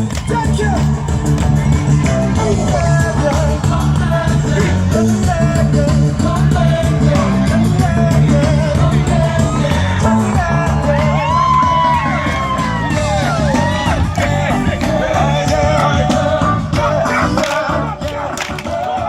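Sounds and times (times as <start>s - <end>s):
upbeat band music: 0.0s - 19.0s
person singing: 1.9s - 19.0s.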